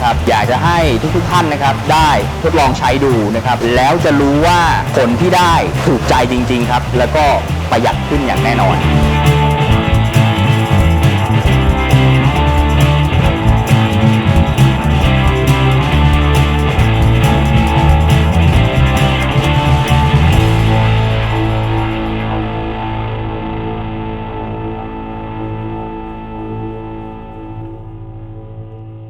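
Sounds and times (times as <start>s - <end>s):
rock music with guitar and bass: 0.0s - 29.0s.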